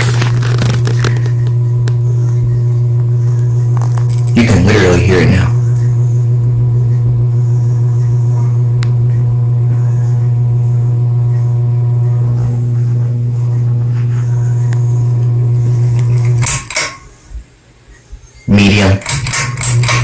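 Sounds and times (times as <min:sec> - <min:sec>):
ceiling fan motor humming: 0:00.0 - 0:20.0.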